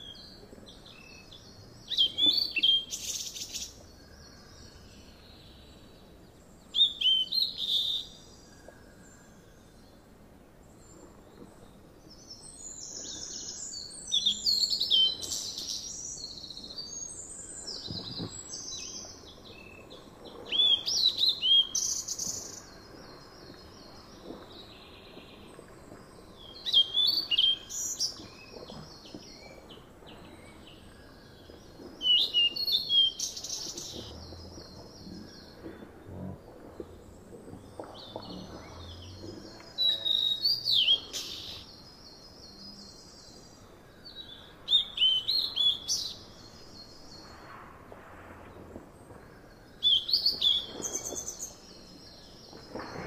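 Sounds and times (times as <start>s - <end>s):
songbird singing: 0.0s - 47.6s, 48.5s - 53.0s
faint outdoor background: 0.0s - 53.0s.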